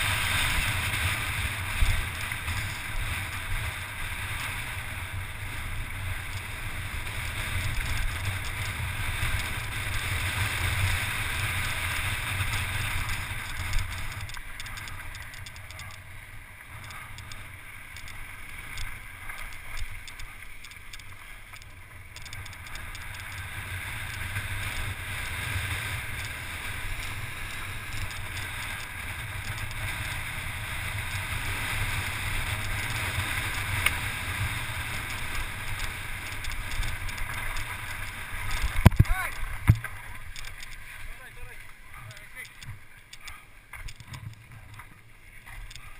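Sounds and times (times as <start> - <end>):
tyres on loose gravel: 0.0 - 45.9.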